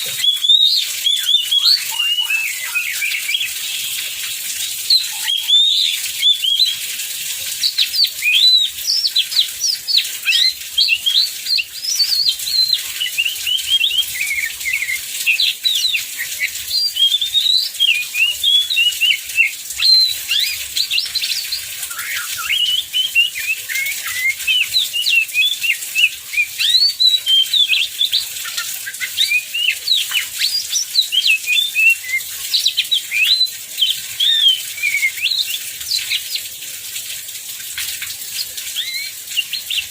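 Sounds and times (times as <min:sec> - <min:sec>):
bird singing whistled notes: 0:00.0 - 0:04.0, 0:04.9 - 0:06.8, 0:07.7 - 0:36.2, 0:38.7 - 0:39.9.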